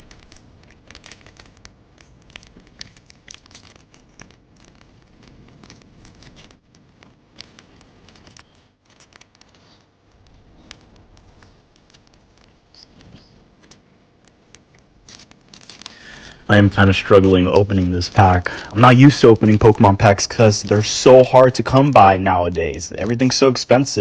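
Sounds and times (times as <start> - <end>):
foil wrapper crinkling: 0.0 - 24.0.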